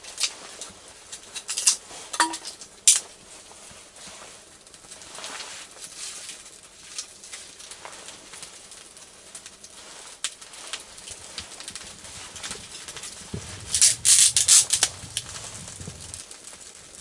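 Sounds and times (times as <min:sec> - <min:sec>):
small fire crackling and popping: 0:00.0 - 0:17.0
soft fire hiss: 0:00.0 - 0:17.0.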